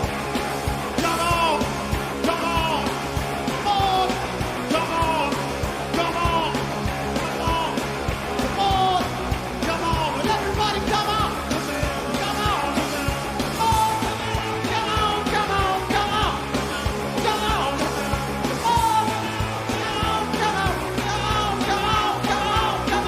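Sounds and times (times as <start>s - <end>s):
garage rock band playing: 0.0s - 23.0s
steady drum beat: 0.0s - 23.0s
person singing and yelling: 0.9s - 23.0s.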